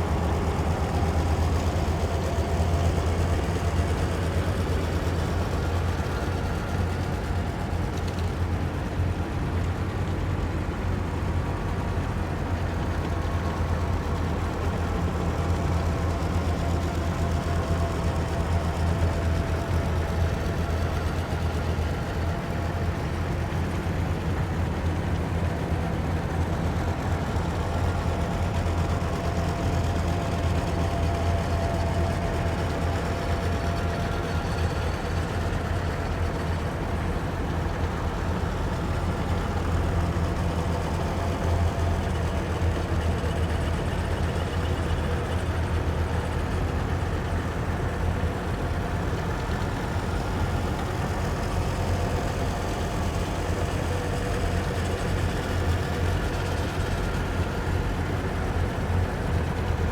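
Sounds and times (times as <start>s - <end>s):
heavy vehicle engines rumbling: 0.0s - 59.9s.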